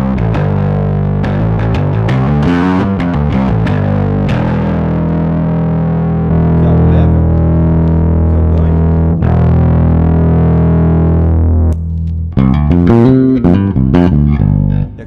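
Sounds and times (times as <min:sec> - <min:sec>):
distorted electric bass notes: 0:00.0 - 0:15.0.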